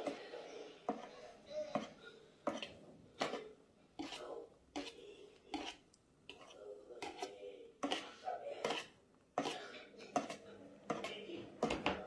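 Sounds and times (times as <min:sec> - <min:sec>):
wire whisk beating batter in bowl: 0:00.9 - 0:12.0.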